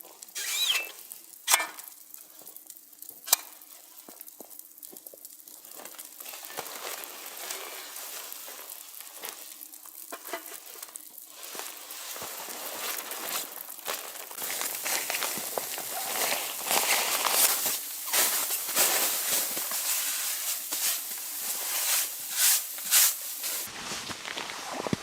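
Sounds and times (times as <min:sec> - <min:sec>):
food sizzling in a pan: 0:00.0 - 0:23.9.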